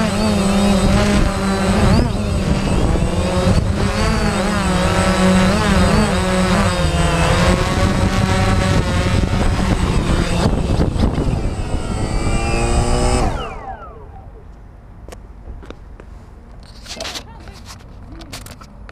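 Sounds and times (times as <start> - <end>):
drone propellers whirring: 0.0 - 15.5.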